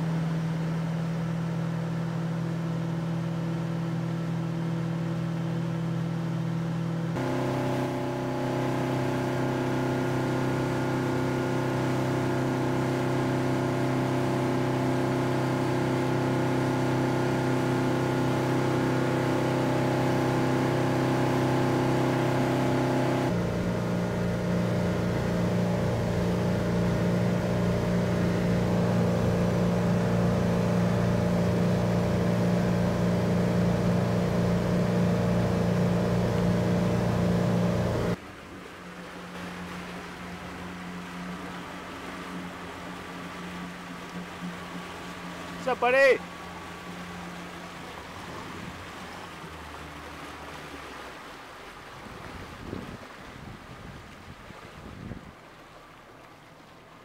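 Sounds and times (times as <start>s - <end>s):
motorboat engine running: 0.0s - 57.0s.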